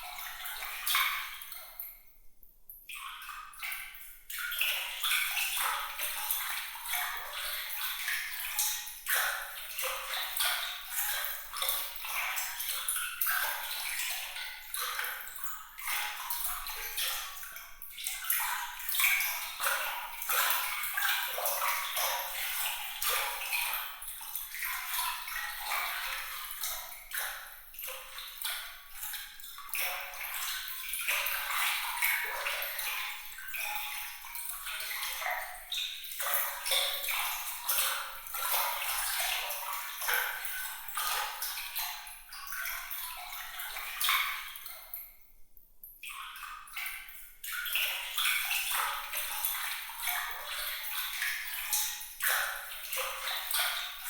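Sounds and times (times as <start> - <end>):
water trickling and splashing: 0.0 - 2.1, 2.9 - 45.3, 46.0 - 54.0.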